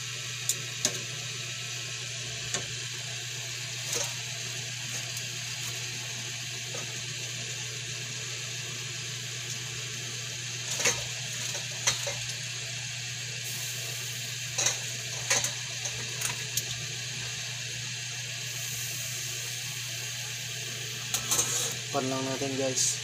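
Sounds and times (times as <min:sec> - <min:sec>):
simmering pot hiss: 0:00.0 - 0:23.0.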